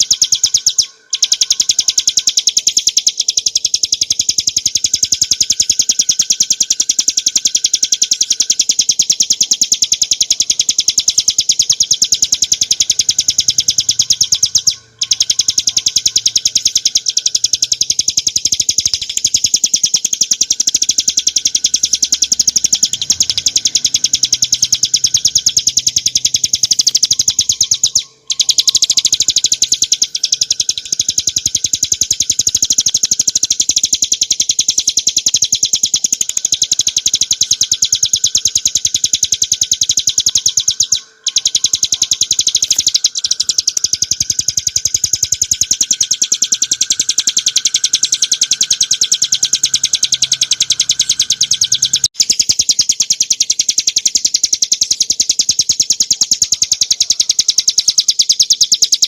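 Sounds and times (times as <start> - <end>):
bird singing high repeated notes: 0.0 - 59.0.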